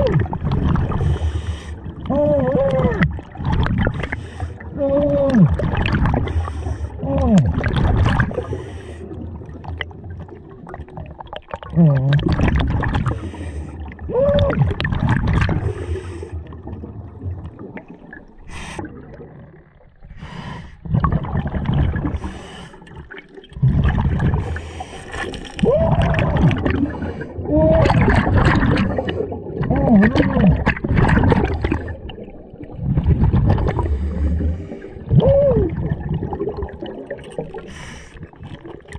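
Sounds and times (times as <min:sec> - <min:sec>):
gurgling exhaled bubbles: 0:00.0 - 0:38.9.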